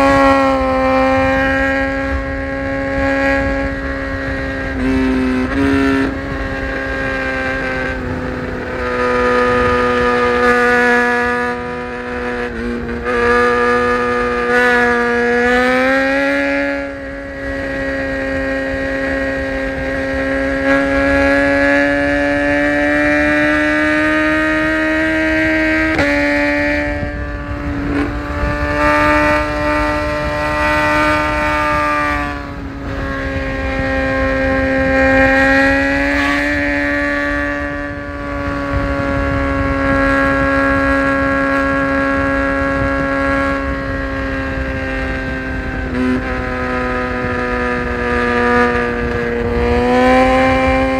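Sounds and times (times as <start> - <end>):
low wind rumble: 0.0 - 50.9
motorcycle engine at high revs: 0.0 - 50.9.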